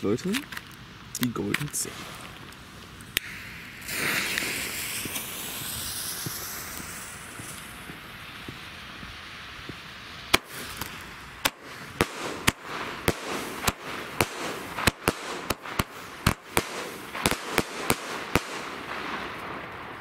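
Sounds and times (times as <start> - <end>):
firework bangs: 0.8 - 20.0.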